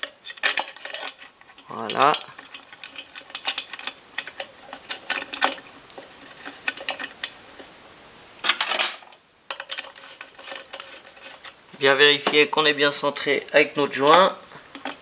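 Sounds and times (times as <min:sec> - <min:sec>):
scraping rustle: 0:00.0 - 0:15.0.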